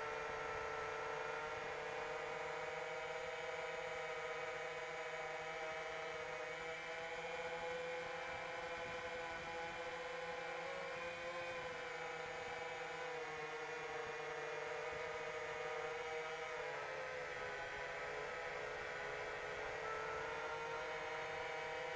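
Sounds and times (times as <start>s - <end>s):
drone motors whining: 0.0s - 21.9s.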